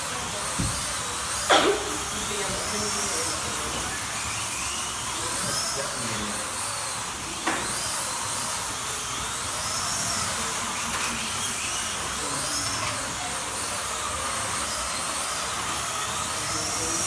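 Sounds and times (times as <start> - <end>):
slot car motors whining: 0.0 - 17.0.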